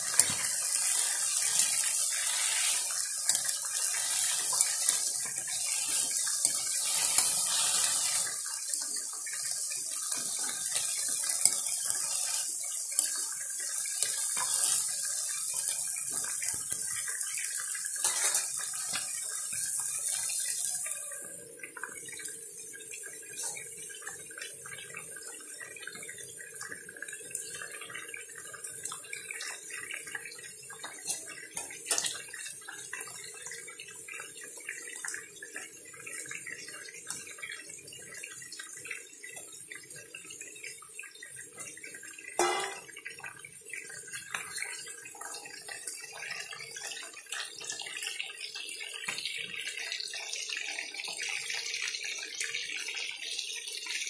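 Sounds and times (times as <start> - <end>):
food simmering and sizzling in pan: 0.0 - 54.0.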